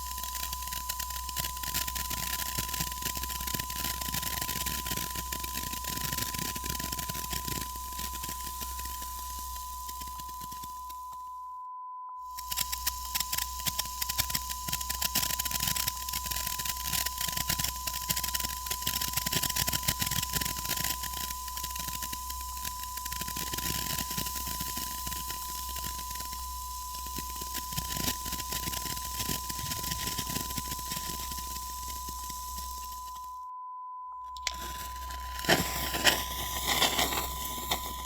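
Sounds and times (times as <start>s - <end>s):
sparkler crackling: 0.0s - 11.1s, 12.4s - 33.3s, 34.4s - 38.0s.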